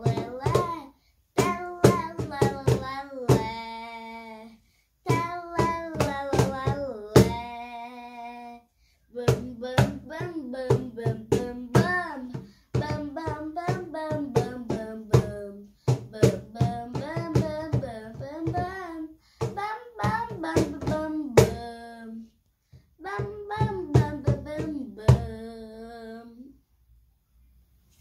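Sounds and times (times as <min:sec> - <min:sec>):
child singing: 0:00.0 - 0:22.4, 0:23.0 - 0:26.6.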